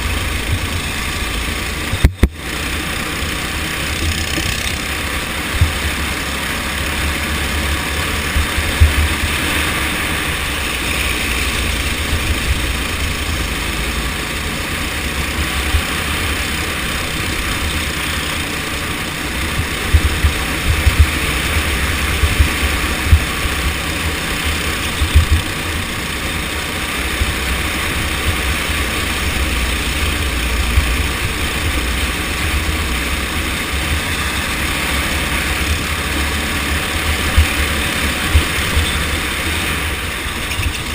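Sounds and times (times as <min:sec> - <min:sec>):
go-kart engine rumbling: 0:00.0 - 0:40.9.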